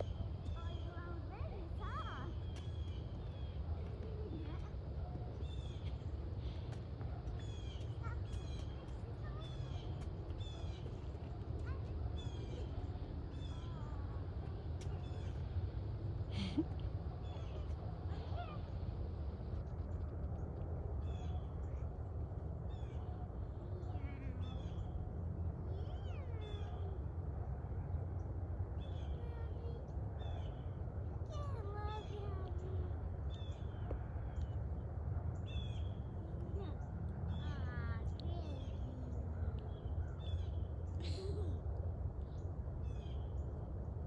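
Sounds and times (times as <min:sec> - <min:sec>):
steady low rumble: 0:00.0 - 0:44.0.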